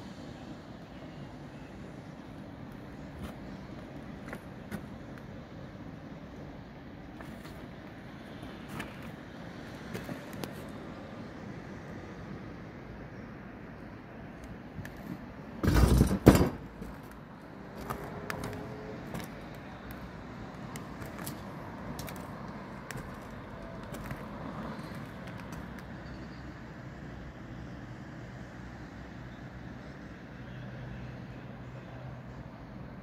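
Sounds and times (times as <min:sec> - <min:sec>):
distant traffic: 0:00.0 - 0:33.0.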